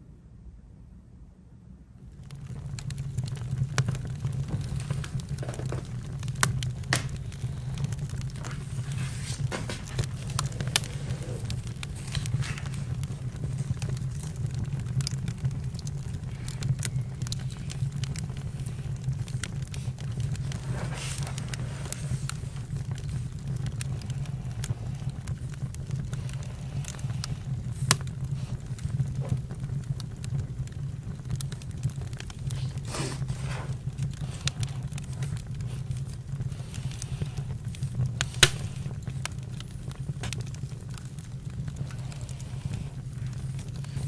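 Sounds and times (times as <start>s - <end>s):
steady low rumble: 0.0s - 44.0s
campfire crackling: 2.0s - 44.0s
sharp pops of fire: 2.1s - 44.0s.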